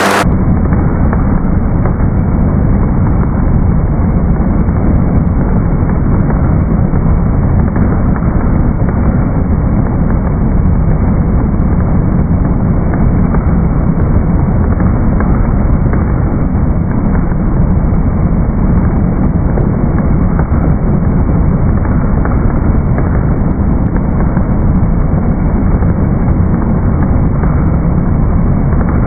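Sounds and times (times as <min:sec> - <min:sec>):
skating treadmill rumble: 0:00.0 - 0:29.0.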